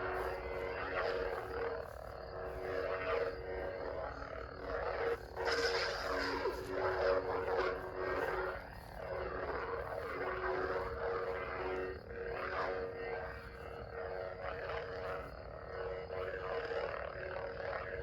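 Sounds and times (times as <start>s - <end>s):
lightsaber buzzing hum: 0.0s - 18.0s.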